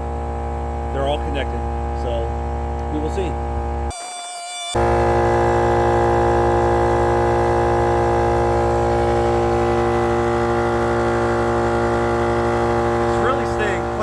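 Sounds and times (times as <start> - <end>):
portable air compressor running: 0.0 - 3.9, 4.7 - 14.0.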